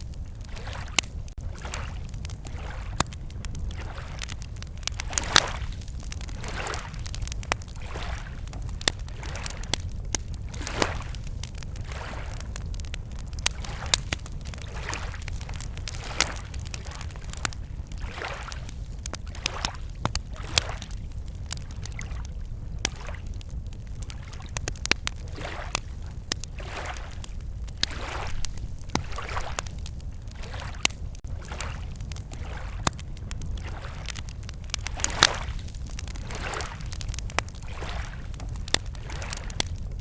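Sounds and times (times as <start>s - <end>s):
small waves lapping: 0.0s - 23.4s, 24.0s - 39.8s
campfire crackling and popping: 0.0s - 40.0s.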